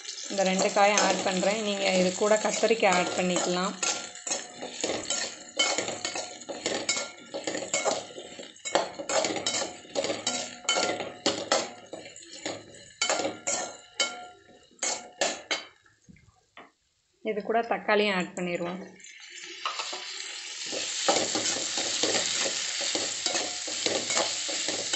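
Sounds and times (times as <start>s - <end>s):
spatula scraping a metal pan: 0.0s - 15.6s, 19.6s - 24.9s.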